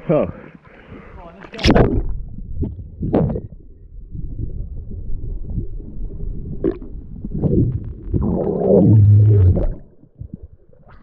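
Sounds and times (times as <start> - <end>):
muffled underwater rumble: 1.0 - 11.0.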